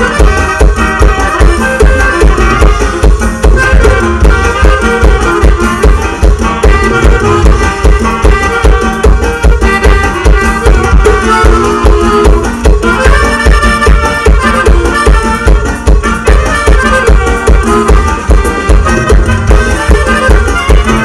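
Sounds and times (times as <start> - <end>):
accordion melody: 0.0 - 21.0
bass and drum beat: 0.0 - 21.0.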